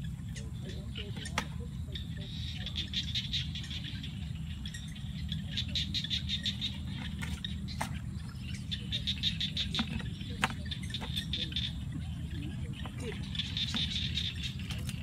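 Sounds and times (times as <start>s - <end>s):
rapid high-pitched chirping: 0.0s - 15.0s.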